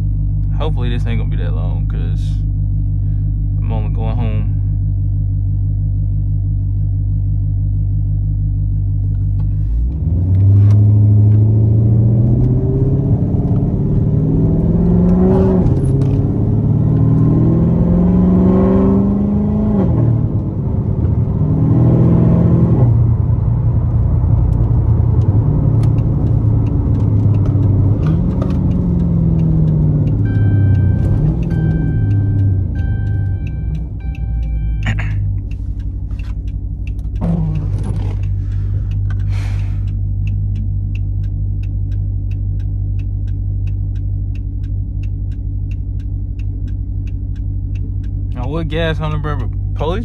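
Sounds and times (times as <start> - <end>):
car engine idling: 0.0 - 18.2, 22.9 - 50.0
car accelerating through gears: 9.8 - 50.0.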